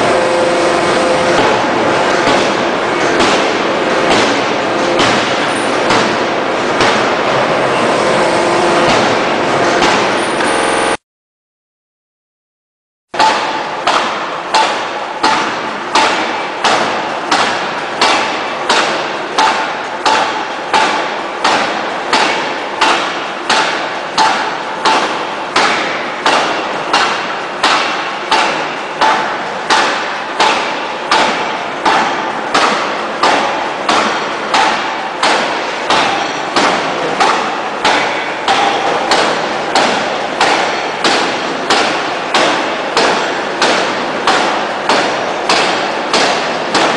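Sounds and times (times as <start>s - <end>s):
forging hammer striking metal: 0.0s - 11.0s, 13.2s - 46.9s.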